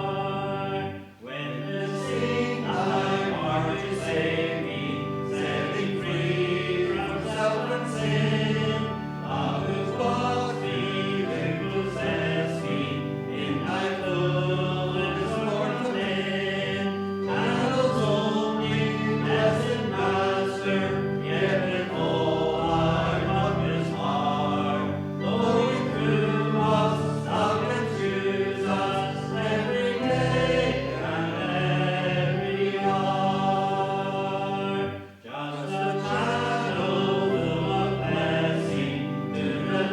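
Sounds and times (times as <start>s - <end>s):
choir singing a hymn: 0.0s - 39.9s
instrumental held chords: 0.0s - 39.9s.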